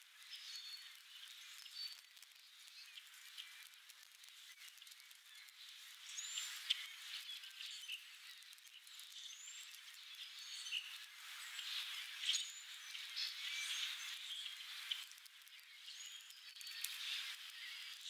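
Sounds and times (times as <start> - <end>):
small birds chirping: 0.2 - 18.0.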